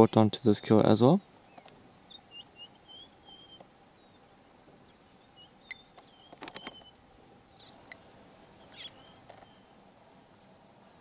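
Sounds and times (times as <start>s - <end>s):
small birds chirping: 0.0s - 10.5s
faint steady hum: 0.0s - 11.0s.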